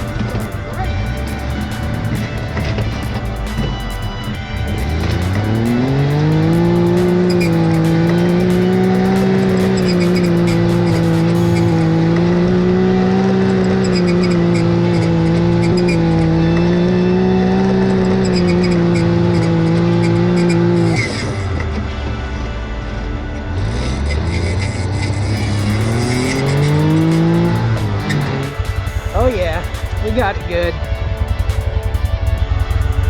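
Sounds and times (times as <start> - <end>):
music: 0.0 - 13.8, 14.7 - 33.0
dune buggy engine revving: 0.0 - 33.0.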